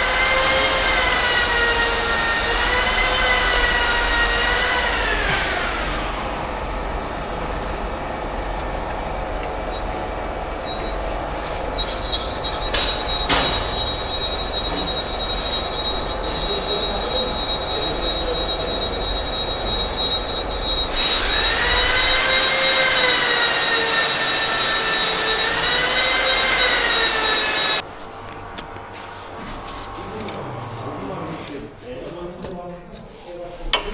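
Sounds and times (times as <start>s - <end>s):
machine whine: 0.0s - 27.8s.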